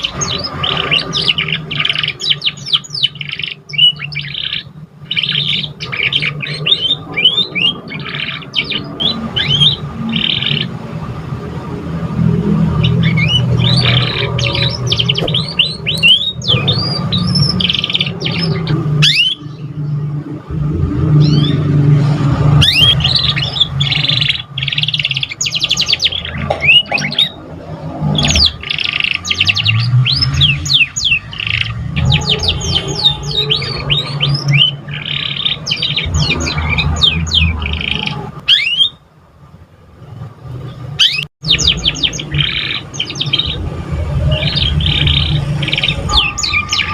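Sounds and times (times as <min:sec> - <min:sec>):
canary singing trills: 0:00.0 - 0:11.2, 0:12.3 - 0:20.4, 0:21.0 - 0:39.1, 0:40.6 - 0:46.9.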